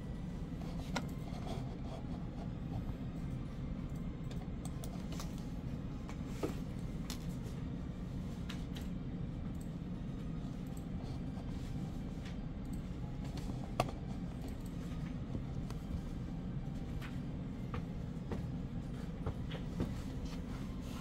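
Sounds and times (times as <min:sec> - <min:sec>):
office background hum: 0:00.0 - 0:21.0.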